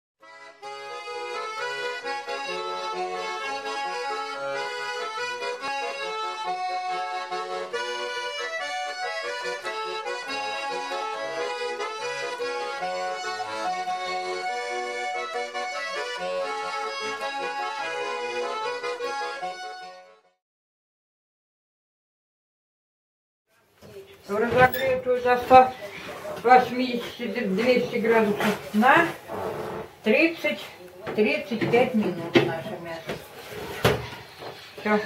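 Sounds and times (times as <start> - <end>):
accordion music: 0.2 - 20.4, 24.9 - 35.0.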